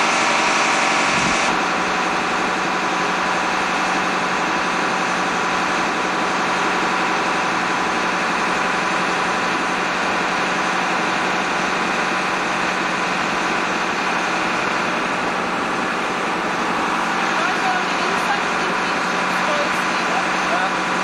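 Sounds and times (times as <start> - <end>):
marine engine droning: 0.0 - 21.0.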